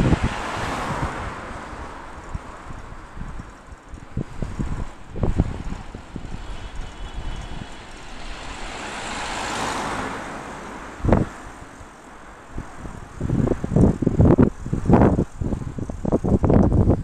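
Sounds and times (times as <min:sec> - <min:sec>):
car passing: 0:00.0 - 0:16.6
wind buffeting microphone: 0:00.0 - 0:17.0.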